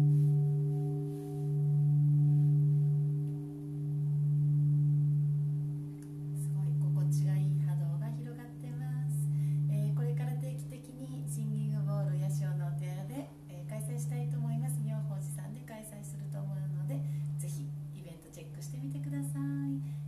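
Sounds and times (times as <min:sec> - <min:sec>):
bowl bell ringing: 0:00.0 - 0:20.0.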